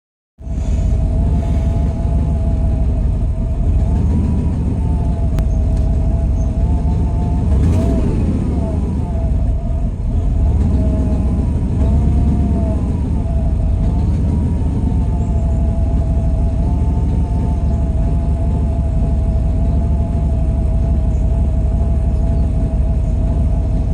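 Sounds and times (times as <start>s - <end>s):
truck engine rumbling: 0.4s - 23.9s
wavering engine whine: 0.4s - 23.9s.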